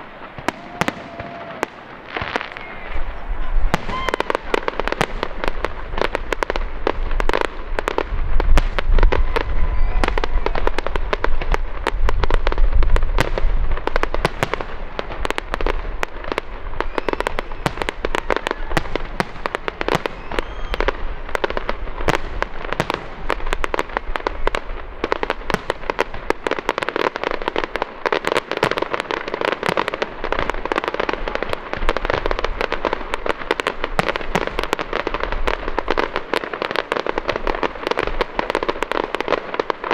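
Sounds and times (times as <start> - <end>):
fireworks booming: 0.0 - 39.9
fireworks crackling: 0.0 - 39.9.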